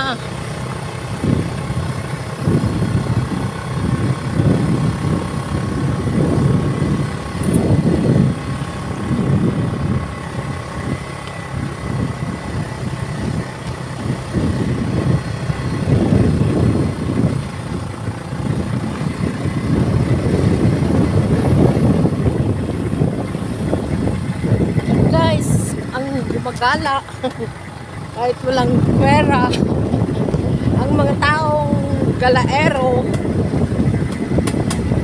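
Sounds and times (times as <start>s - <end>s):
car engine and road noise: 0.0s - 35.0s
wind gusting over microphone: 0.0s - 35.0s.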